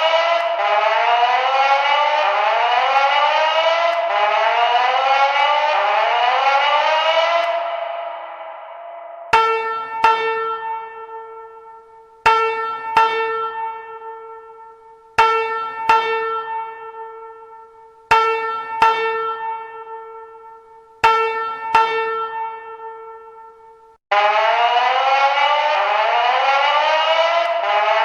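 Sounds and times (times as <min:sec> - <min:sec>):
fire alarm chime: 0:00.0 - 0:28.0.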